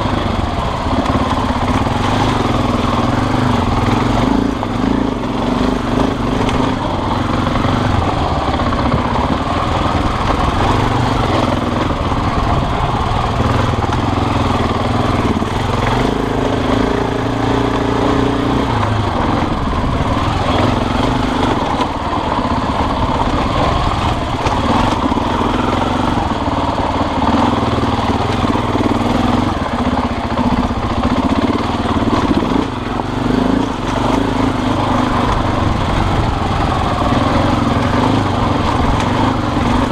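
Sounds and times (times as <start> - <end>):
small motorcycle engine: 0.0 - 39.9.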